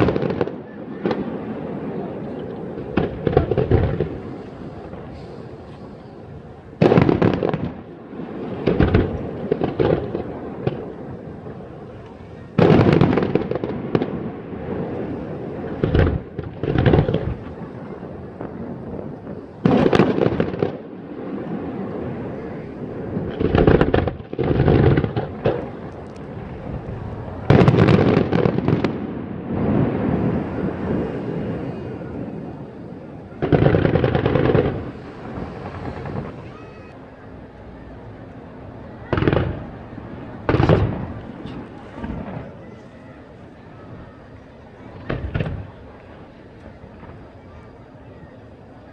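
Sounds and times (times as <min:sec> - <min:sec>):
fireworks bursting: 0:00.0 - 0:48.9
rumble after fireworks bangs: 0:00.0 - 0:48.9.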